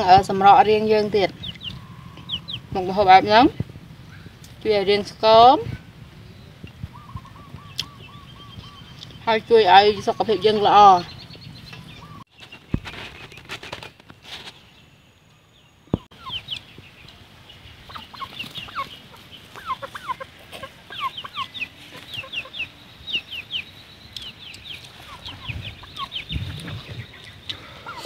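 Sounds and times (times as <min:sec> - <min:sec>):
chickens peeping: 0:00.0 - 0:28.0.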